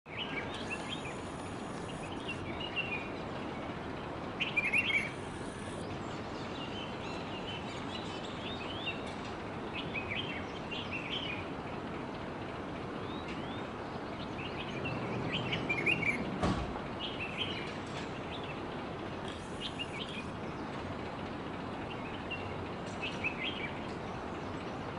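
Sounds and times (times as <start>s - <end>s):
small birds chirping: 0.1s - 11.6s, 13.0s - 16.3s, 16.9s - 24.9s
steady background hiss: 0.1s - 24.9s.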